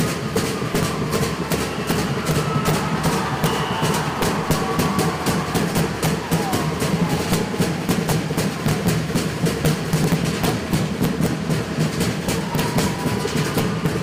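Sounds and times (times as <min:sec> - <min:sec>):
fast drumming on log drums: 0:00.0 - 0:14.0.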